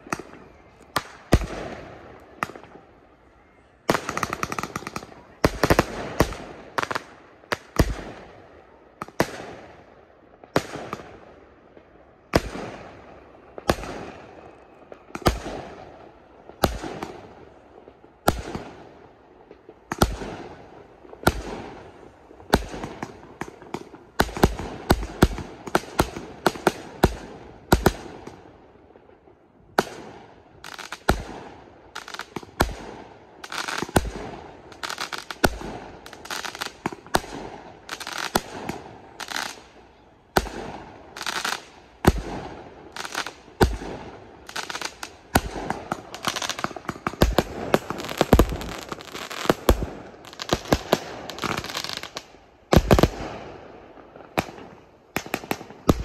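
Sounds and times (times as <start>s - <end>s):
firework crackling: 3.8s - 8.4s, 10.3s - 56.0s.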